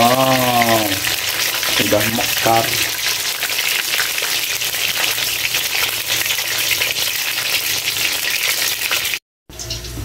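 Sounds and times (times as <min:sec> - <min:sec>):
sausages deep-frying in oil: 0:00.0 - 0:10.0.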